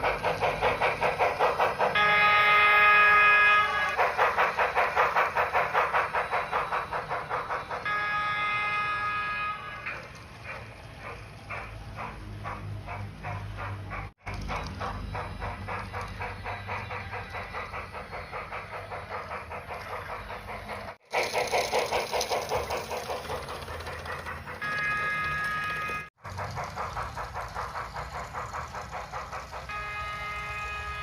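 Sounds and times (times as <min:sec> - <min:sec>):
model steam locomotive chuffing: 0:00.0 - 0:31.0.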